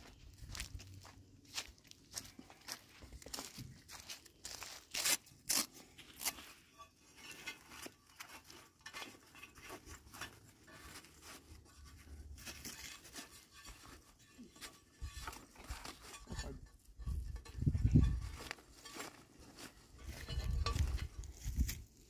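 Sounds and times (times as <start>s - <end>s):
straps scraping: 2.6s - 22.0s.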